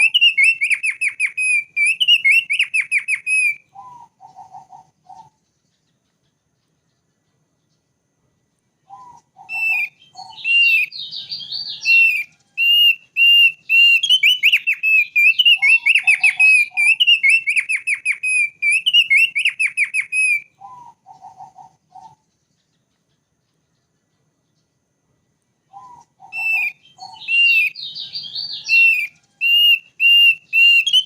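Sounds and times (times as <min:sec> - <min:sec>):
bird singing whistled notes and trills: 0:00.0 - 0:31.0.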